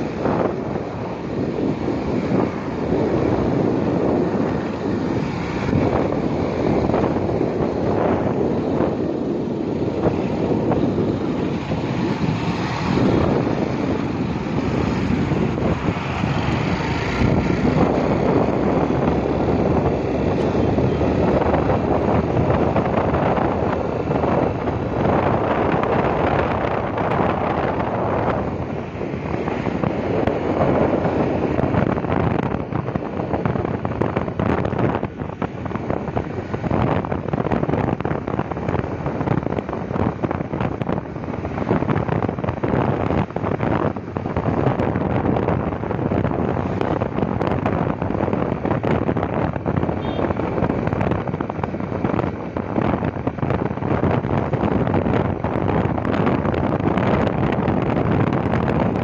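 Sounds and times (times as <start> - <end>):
motorbike engine: 0.0 - 59.0
road noise: 0.0 - 59.0
wind buffeting microphone: 0.0 - 59.0.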